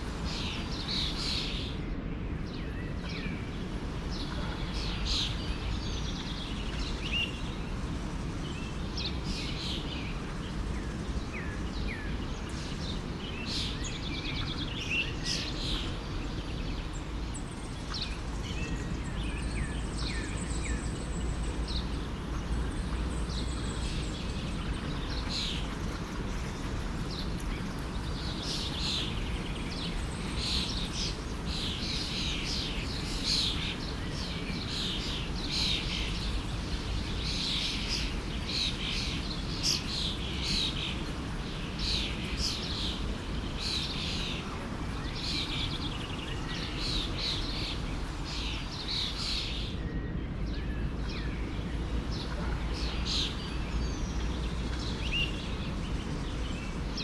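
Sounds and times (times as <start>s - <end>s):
forest stream rushing: 0.0s - 1.8s, 2.9s - 57.0s
small birds chirping: 0.0s - 1.8s, 2.4s - 57.0s.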